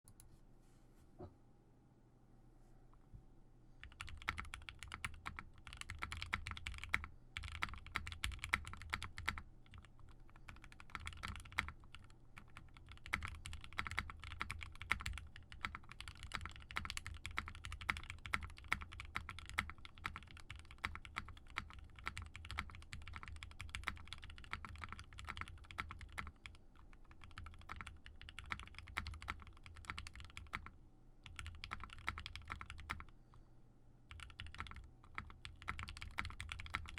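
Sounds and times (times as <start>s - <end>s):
fast mechanical keyboard typing: 3.8s - 33.1s, 34.1s - 36.9s.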